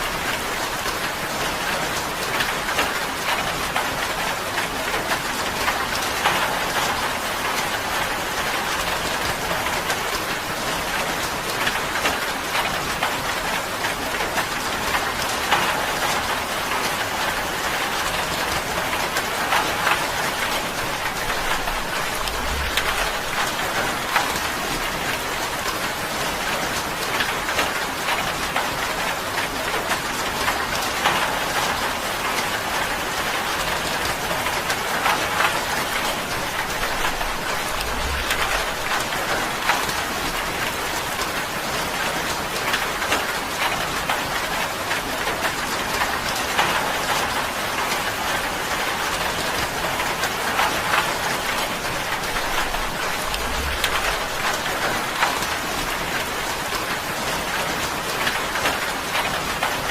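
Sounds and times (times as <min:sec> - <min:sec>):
rain pattering on tin: 0:00.0 - 0:59.9.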